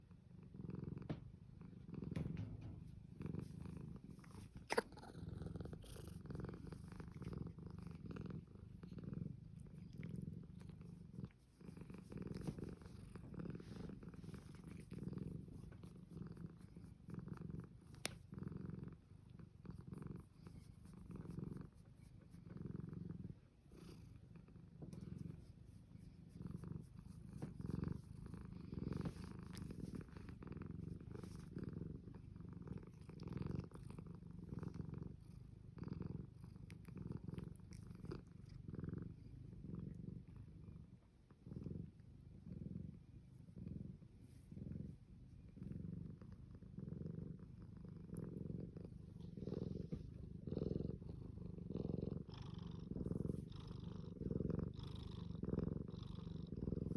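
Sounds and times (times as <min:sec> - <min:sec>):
cat purring: 0:00.0 - 0:56.9.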